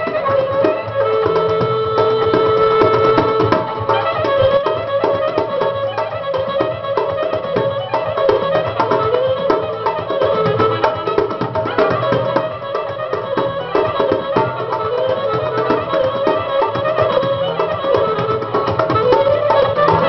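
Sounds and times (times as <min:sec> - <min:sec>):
goblet drum beat: 0:00.0 - 0:20.0
wavering melody instrument: 0:00.0 - 0:20.0.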